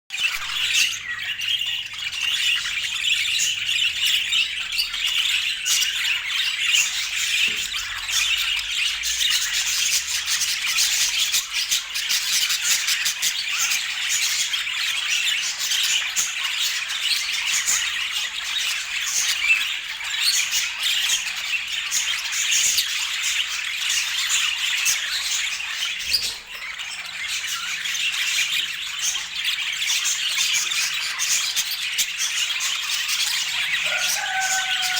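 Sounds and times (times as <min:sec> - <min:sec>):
budgerigar chatter: 0:00.1 - 0:34.9.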